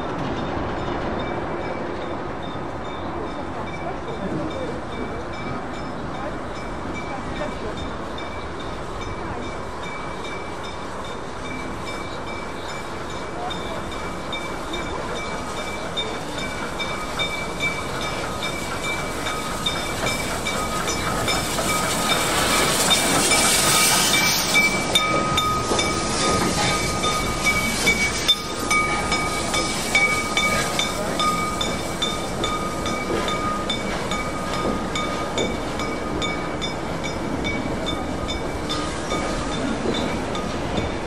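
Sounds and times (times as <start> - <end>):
train wheel noise: 0.0 - 41.0
steam hiss: 6.7 - 41.0.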